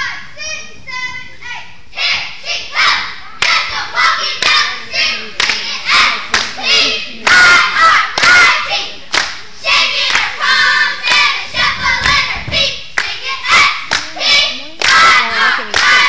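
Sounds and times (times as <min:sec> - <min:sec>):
girls shouting a cheer: 0:02.0 - 0:09.0, 0:09.7 - 0:16.0.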